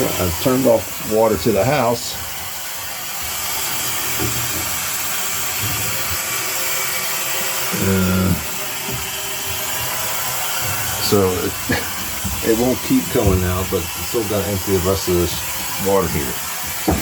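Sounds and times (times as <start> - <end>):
gas hissing from water heater: 0.0 - 17.0.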